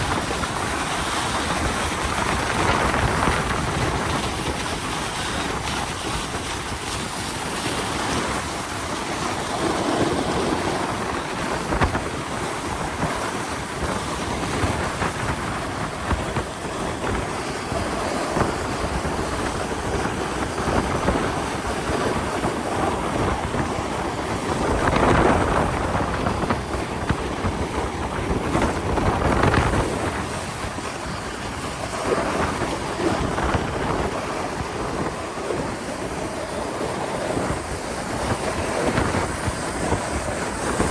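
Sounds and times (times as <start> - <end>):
sled scraping over snow: 0.0 - 40.9
wind rushing over microphone: 0.0 - 40.9.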